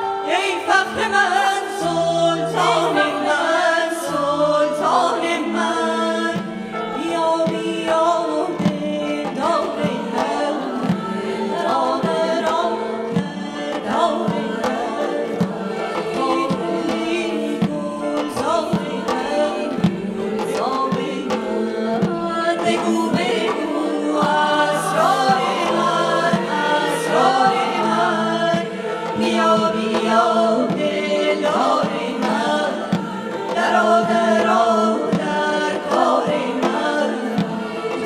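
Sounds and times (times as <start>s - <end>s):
choir singing: 0.0s - 38.0s.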